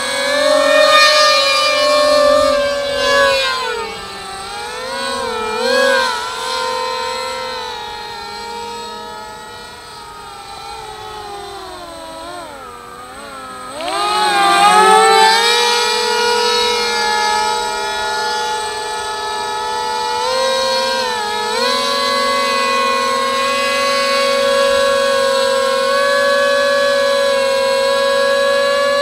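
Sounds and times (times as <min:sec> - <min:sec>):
electric motors and propellers whining: 0:00.0 - 0:29.0.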